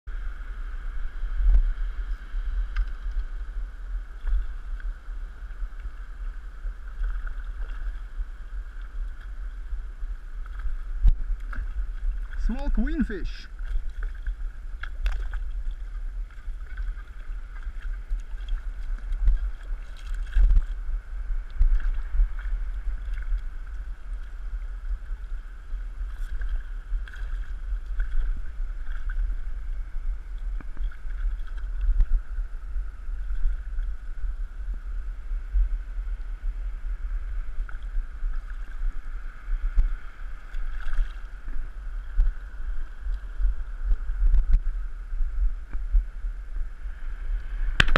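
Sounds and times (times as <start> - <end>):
wind and sea water rumble: 0.1 - 47.9.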